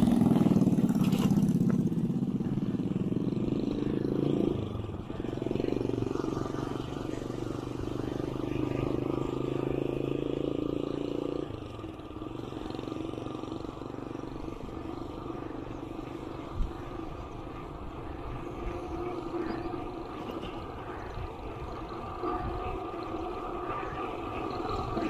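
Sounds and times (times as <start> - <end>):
small motorcycle engine running: 0.0 - 25.0.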